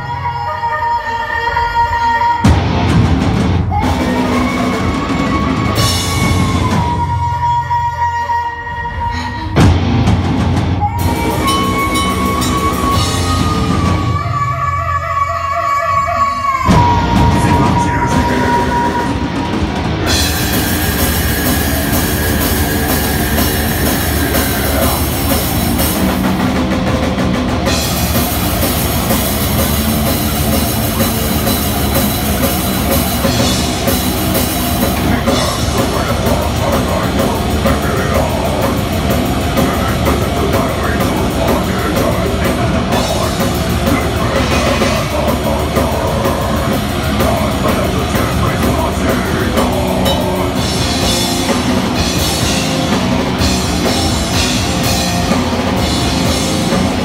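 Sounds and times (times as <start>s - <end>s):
distorted electric guitars: 2.4s - 7.6s, 8.9s - 14.6s, 16.6s - 57.0s
bass guitar: 2.4s - 7.9s, 9.1s - 14.7s, 16.6s - 57.0s
drum kit: 2.4s - 7.9s, 9.1s - 14.5s, 16.7s - 57.0s.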